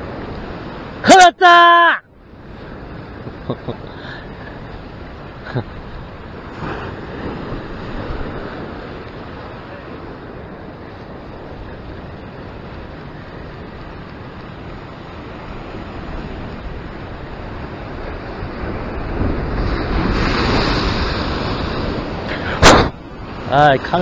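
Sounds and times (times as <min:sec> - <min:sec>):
surf washing against rocks: 0:00.0 - 0:24.0
wind buffeting microphone: 0:02.2 - 0:24.0
wave breaking against rocks: 0:04.8 - 0:24.0.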